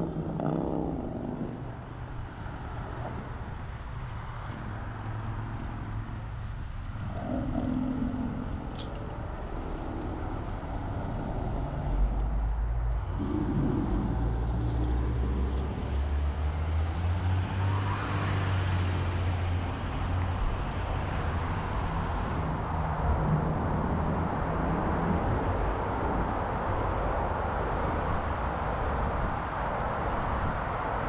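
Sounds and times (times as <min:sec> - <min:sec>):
traffic engines humming: 0:00.0 - 0:31.0.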